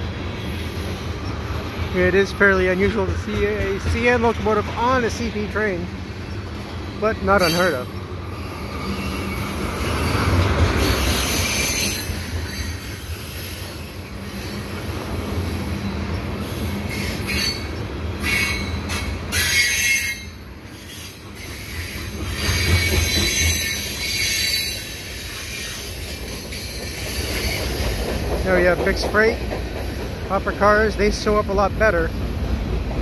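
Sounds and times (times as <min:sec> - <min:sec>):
steel wheels squealing: 0:00.4 - 0:05.2, 0:06.2 - 0:32.1.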